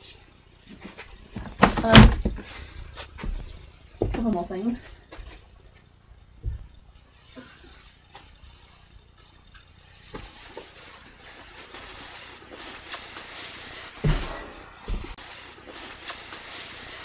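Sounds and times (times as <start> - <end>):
rustling and shuffling: 0.0 - 17.0.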